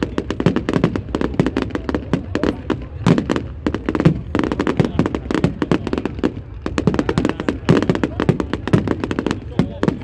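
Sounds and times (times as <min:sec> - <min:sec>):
fireworks bangs and crackles: 0:00.0 - 0:10.0
heavy firework booms: 0:00.0 - 0:10.0.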